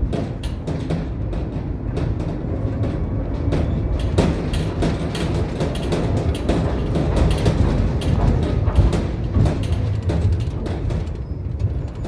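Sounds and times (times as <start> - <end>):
clacks and knocks of tram: 0.0 - 12.0
tram wheels rumbling on rails: 0.0 - 12.0.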